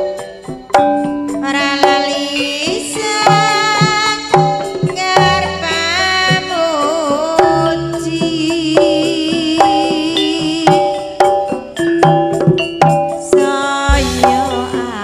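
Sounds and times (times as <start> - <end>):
hand drum beating: 0.0 - 15.0
wavering vibrato melody: 0.0 - 15.0.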